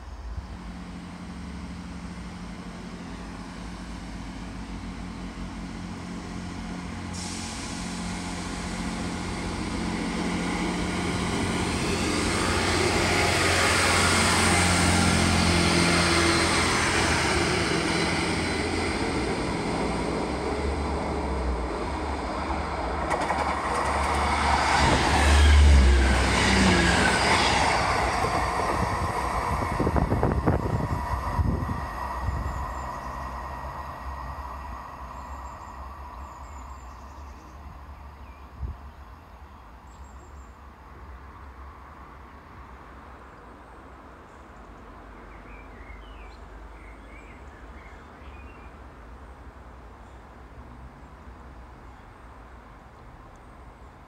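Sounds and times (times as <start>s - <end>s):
diesel train passing: 0.0s - 54.0s.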